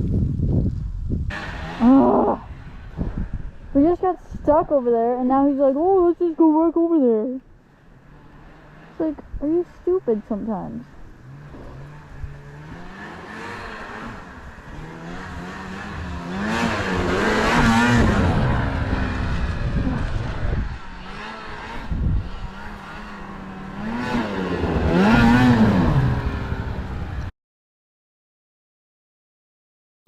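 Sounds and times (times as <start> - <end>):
snowmobile engine revving: 1.3 - 27.3.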